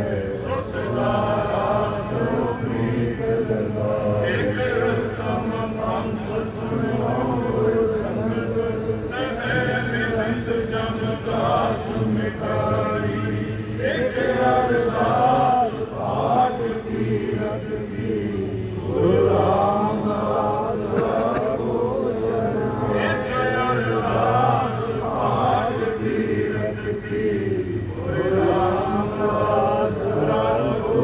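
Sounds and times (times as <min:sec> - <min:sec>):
men chanting hymns: 0:00.0 - 0:31.0.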